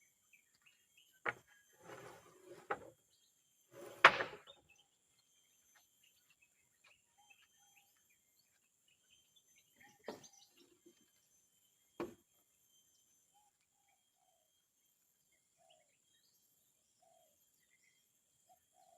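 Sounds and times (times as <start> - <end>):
faint bird chirps: 0.0 - 18.9.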